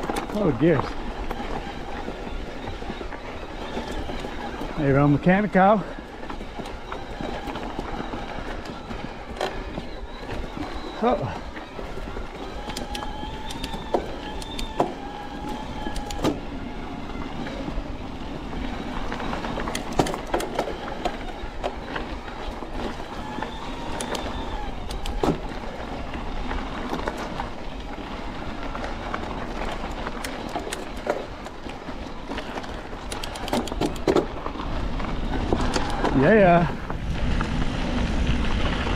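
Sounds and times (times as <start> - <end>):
bike chain clicks and knocks: 0.0 - 38.9
bike tyres rumbling on dirt: 0.0 - 38.9.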